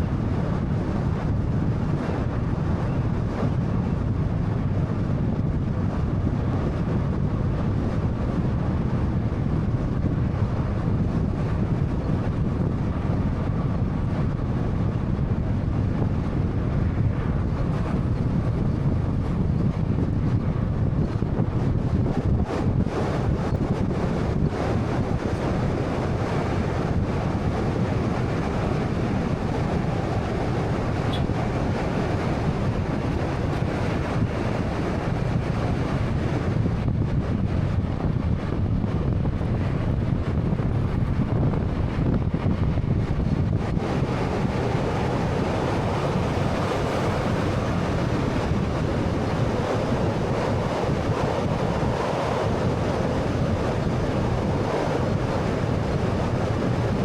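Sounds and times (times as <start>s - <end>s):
car road noise rumble: 0.0s - 57.0s.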